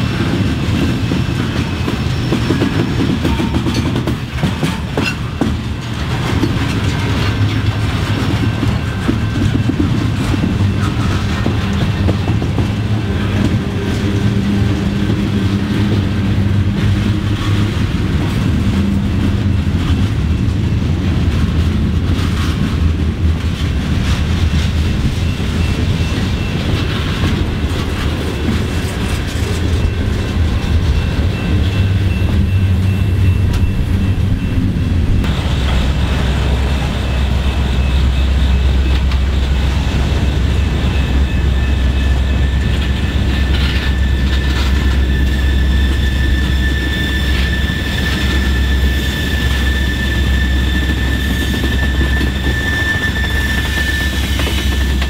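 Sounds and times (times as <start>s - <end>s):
freight train wheels rumbling: 0.0s - 55.0s
wheels clicking over rail joints: 0.0s - 55.0s.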